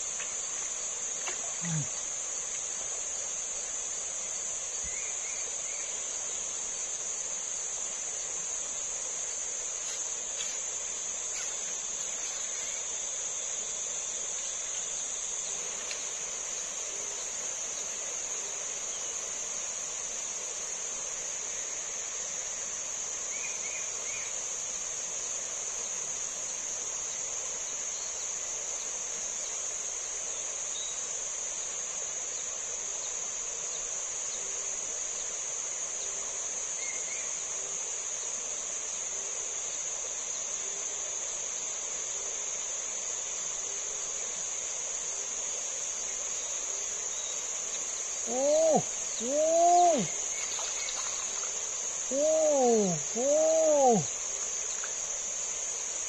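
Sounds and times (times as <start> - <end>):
faint even hiss: 0.0 - 56.0
high-pitched insect chorus: 0.0 - 56.0.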